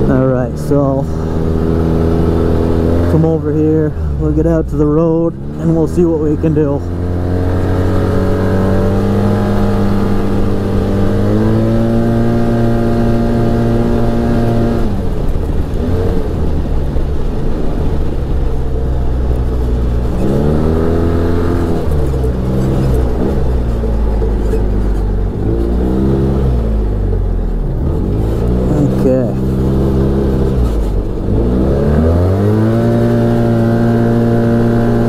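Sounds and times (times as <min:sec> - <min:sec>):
side-by-side engine revving: 0:00.0 - 0:35.0.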